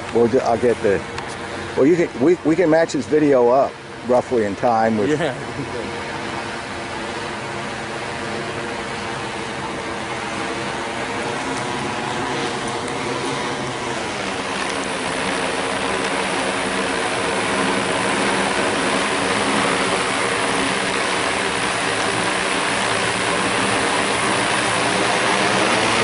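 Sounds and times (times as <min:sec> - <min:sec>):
drone propellers whirring: 0:00.0 - 0:26.0.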